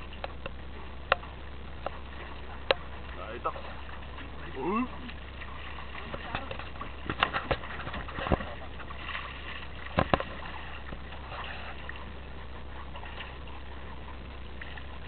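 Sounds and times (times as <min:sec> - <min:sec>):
water sloshing against boat: 0:00.0 - 0:15.0.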